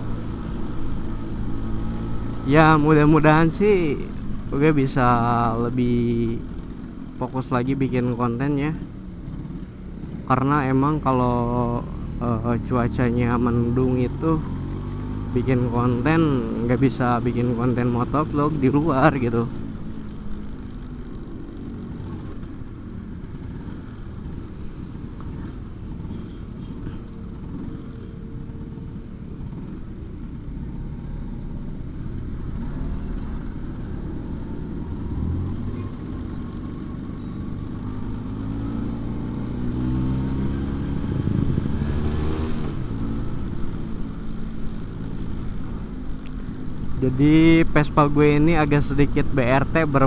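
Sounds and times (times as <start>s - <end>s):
traffic: 0.0s - 50.0s
wind: 0.0s - 50.0s.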